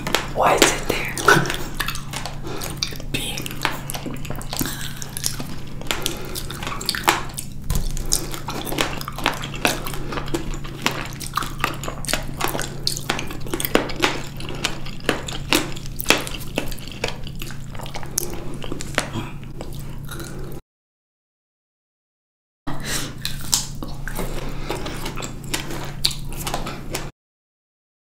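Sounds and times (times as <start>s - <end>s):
wet chewing squelches: 0.0s - 20.6s, 22.8s - 27.1s.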